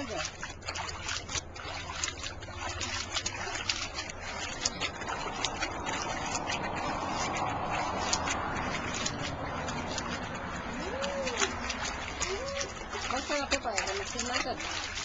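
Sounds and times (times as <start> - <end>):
rushing water: 0.0 - 15.0
water splashing and dripping: 0.0 - 15.0.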